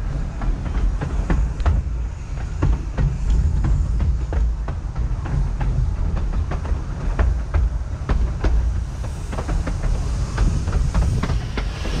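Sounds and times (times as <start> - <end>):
train rumbling on track: 0.0 - 12.0
wheels clicking over rails: 0.0 - 12.0.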